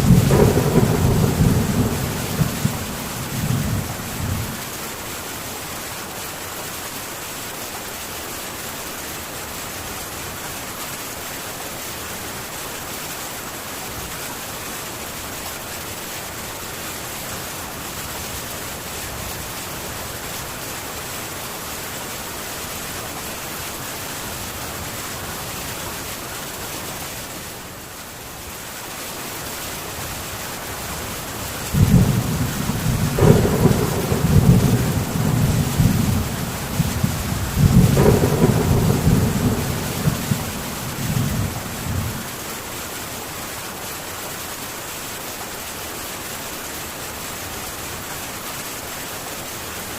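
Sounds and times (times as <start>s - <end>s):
heavy rain on tin roof: 0.0s - 49.9s.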